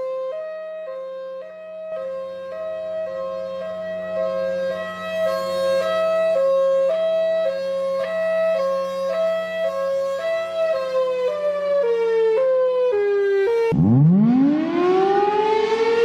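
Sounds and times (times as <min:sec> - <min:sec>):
siren winding up in a rising wail: 0:00.0 - 0:16.0
two-tone warning siren: 0:00.0 - 0:16.0.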